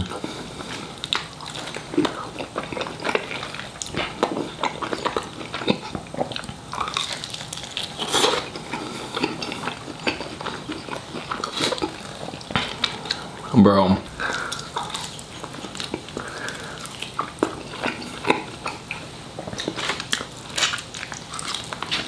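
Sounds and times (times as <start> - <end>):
chewing chicken wing: 0.0 - 13.5, 14.2 - 22.0.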